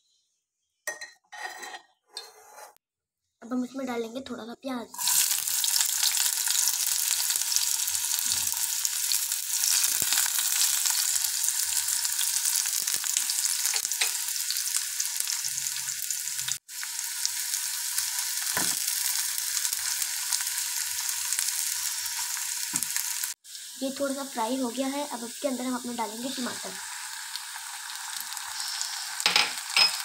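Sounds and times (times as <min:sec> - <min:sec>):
onions sizzling in hot oil: 0:04.9 - 0:30.0.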